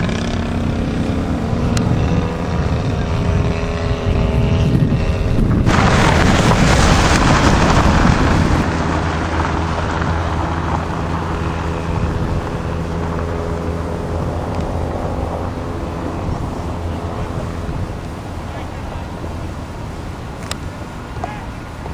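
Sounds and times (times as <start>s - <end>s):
model aeroplane engine buzzing: 0.0s - 5.8s, 8.6s - 20.9s
wind rushing on microphone: 0.0s - 21.9s.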